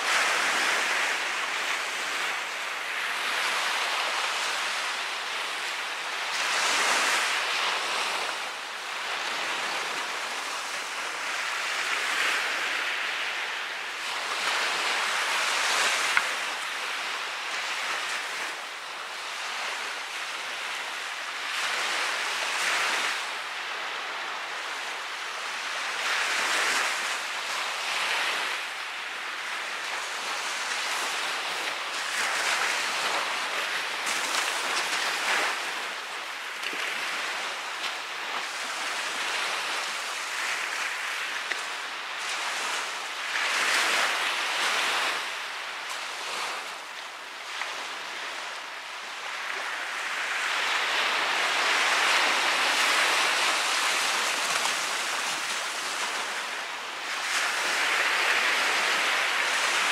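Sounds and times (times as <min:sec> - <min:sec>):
surf washing up a sandy beach: 0:00.0 - 0:59.9.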